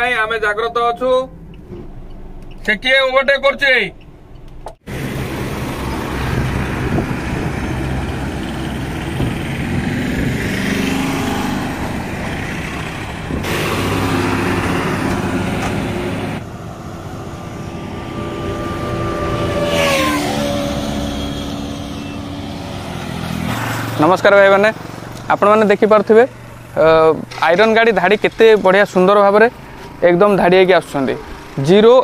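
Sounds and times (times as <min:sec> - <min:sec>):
road noise: 0:00.0 - 0:32.0
traffic engine rumble: 0:00.0 - 0:32.0
passing vehicle engine: 0:04.9 - 0:32.0.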